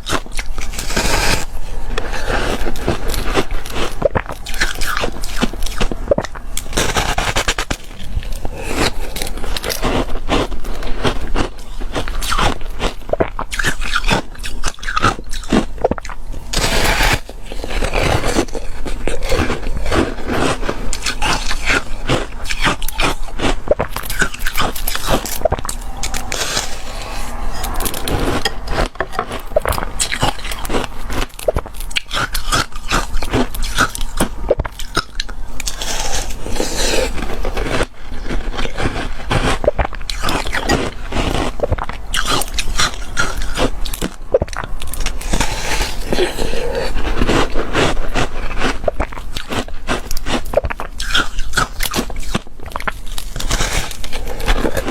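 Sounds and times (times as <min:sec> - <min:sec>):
biting and chewing crunchy ice: 0:00.0 - 0:54.9.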